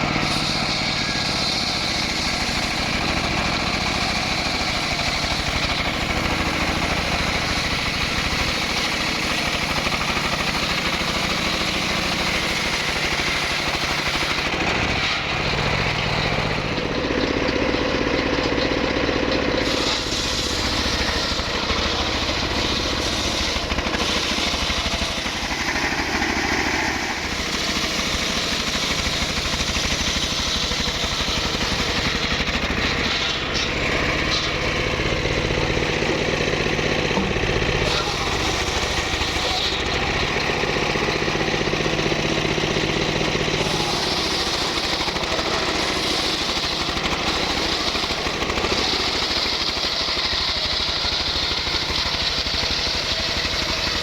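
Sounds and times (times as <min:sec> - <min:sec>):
engine-driven saw cutting wood: 0:00.0 - 0:54.0.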